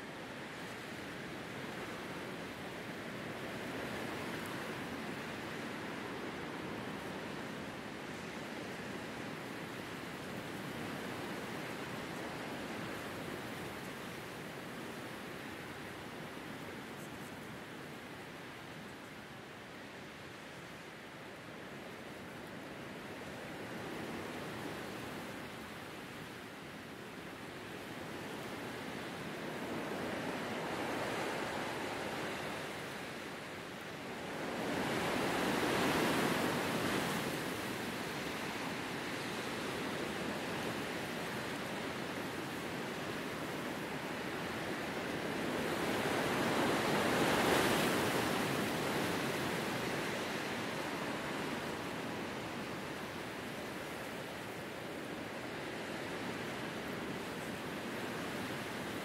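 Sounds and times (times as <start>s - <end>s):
wind through grass and tree: 0.0s - 59.0s.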